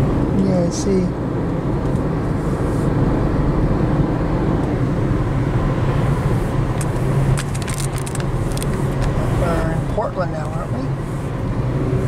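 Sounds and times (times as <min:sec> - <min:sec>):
car road noise inside cabin: 0:00.0 - 0:12.0.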